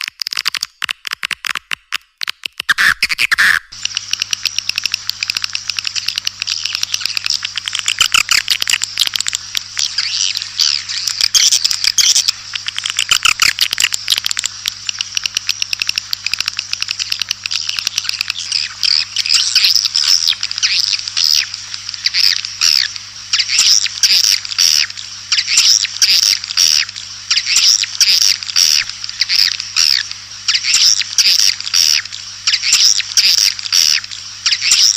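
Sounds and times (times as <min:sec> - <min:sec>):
swiftlets twittering and chirping: 0:02.7 - 0:34.9
steady low hum: 0:02.8 - 0:34.9.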